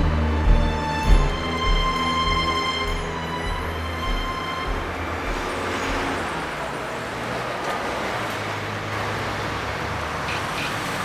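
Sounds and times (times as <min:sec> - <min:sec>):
road traffic passing cars: 0:00.0 - 0:11.0.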